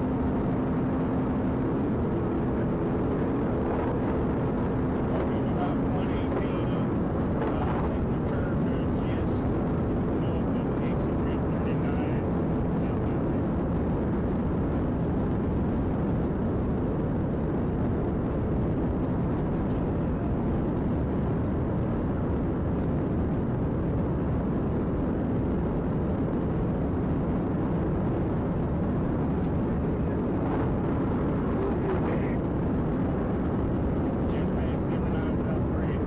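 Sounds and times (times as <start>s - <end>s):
car engine at speed: 0.0s - 35.3s
wind noise: 0.0s - 36.0s.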